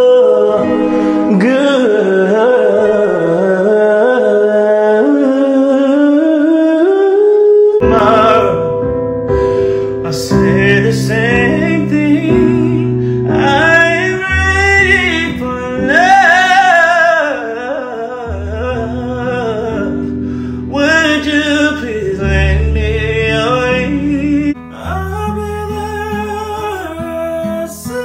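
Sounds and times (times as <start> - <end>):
instrumental backing chords: 0.0 - 4.6, 7.8 - 28.0
man singing: 0.0 - 28.0.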